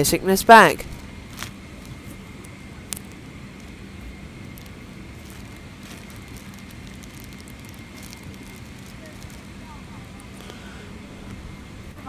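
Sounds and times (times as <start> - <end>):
airplane cabin hiss: 0.0 - 12.0
low hum: 0.0 - 12.0.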